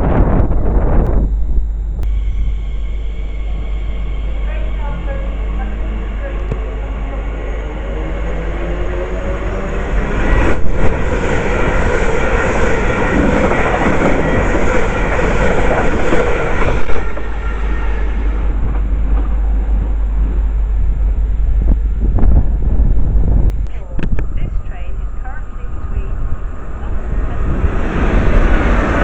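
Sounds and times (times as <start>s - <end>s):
wind rumbling on microphone: 0.0s - 29.0s
train passing at speed: 2.1s - 29.0s.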